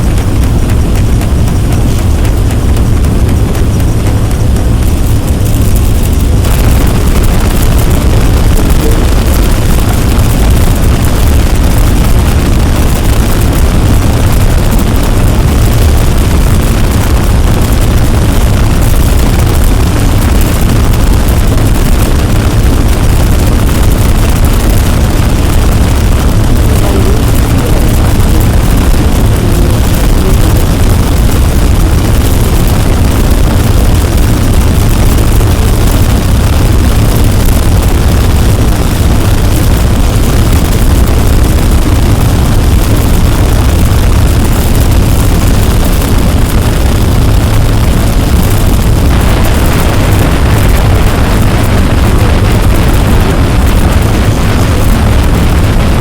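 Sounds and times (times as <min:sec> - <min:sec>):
deep rumbling noise: 0:00.0 - 0:56.0.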